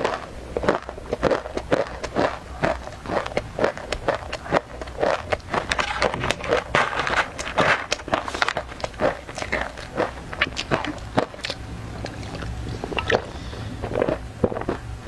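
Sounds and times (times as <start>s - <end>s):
chewing crunchy snack: 0.0s - 15.0s.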